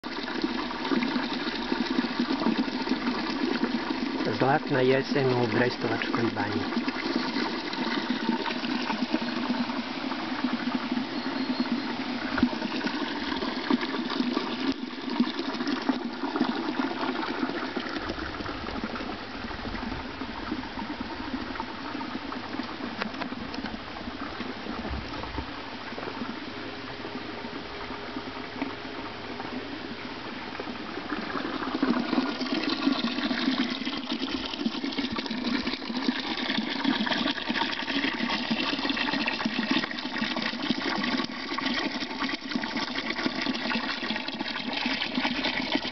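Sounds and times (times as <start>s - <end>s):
water pouring into stone basin: 0.0s - 26.4s, 30.6s - 45.9s.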